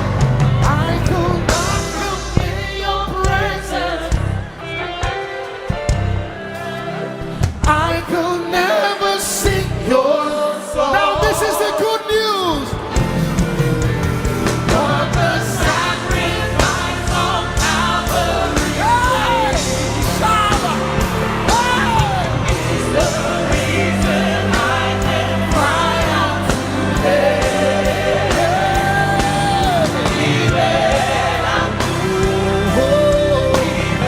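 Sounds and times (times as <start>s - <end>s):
gospel band playing: 0.0s - 34.0s
people singing: 0.0s - 34.0s.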